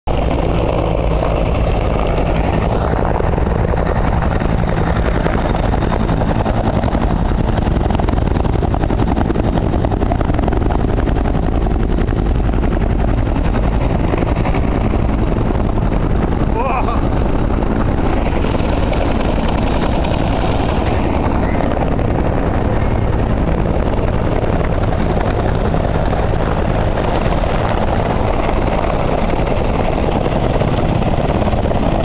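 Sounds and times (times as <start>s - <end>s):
helicopter flying low: 0.0s - 32.0s.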